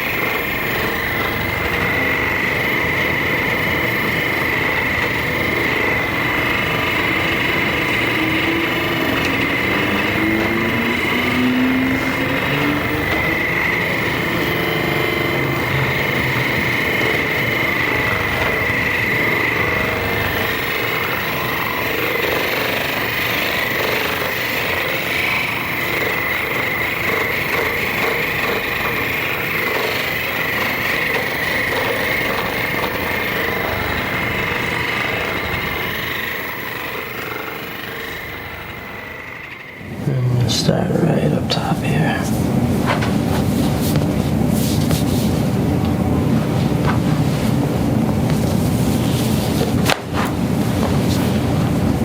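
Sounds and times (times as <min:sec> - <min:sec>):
percussion massager hammering: 0:00.0 - 0:40.1, 0:49.4 - 0:52.0.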